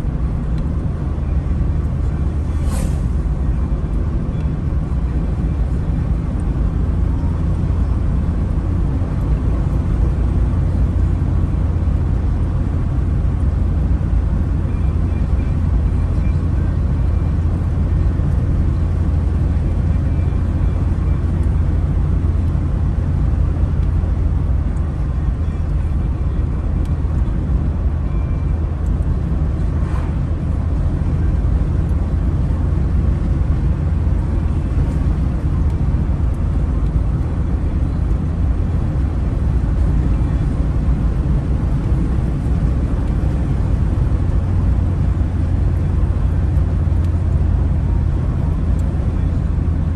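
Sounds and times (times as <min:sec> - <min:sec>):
car engine and tyres rumbling: 0:00.0 - 0:49.9.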